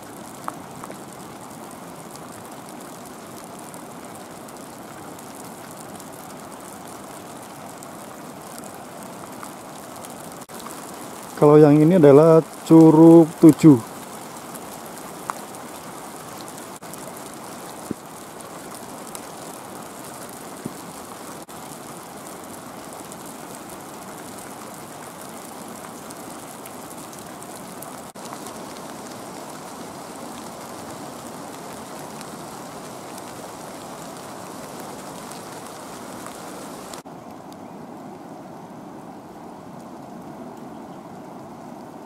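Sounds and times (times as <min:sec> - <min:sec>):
raindrops ticking: 0:00.0 - 0:37.0
light rain hissing: 0:00.0 - 0:42.0.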